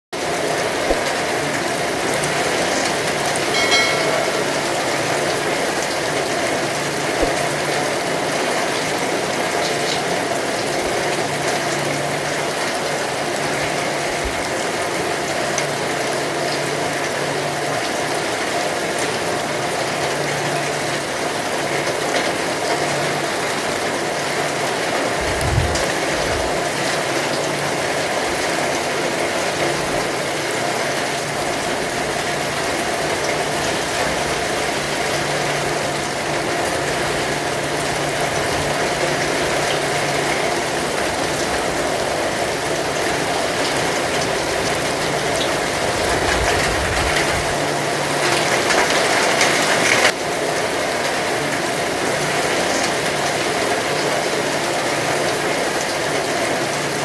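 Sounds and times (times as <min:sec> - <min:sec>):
heavy rain falling: 0:00.2 - 0:57.0.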